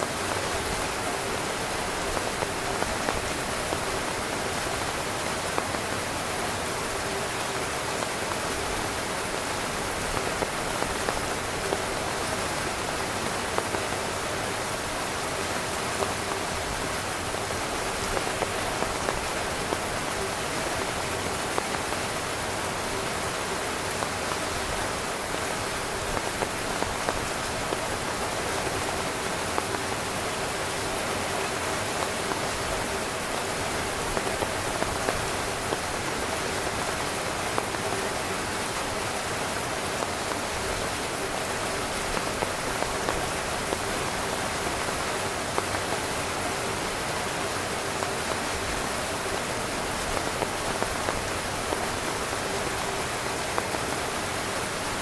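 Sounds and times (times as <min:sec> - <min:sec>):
heavy rain drumming on tent fabric: 0:00.0 - 0:55.0.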